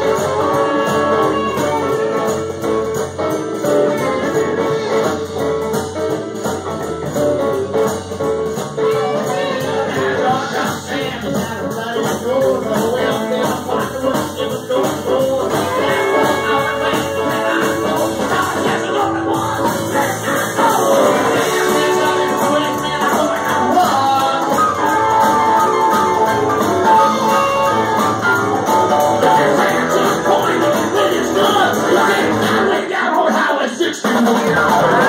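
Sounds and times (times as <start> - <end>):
live blues-rock band playing: 0.0 - 32.8, 34.2 - 35.0.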